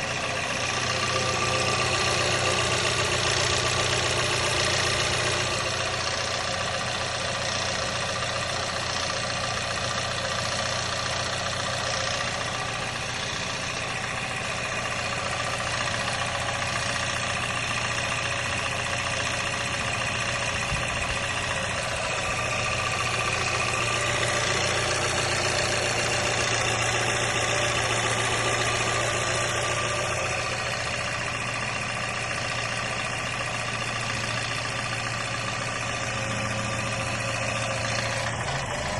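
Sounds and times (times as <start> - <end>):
car engine idling: 0.0 - 38.9
extra engine noise: 0.0 - 38.9.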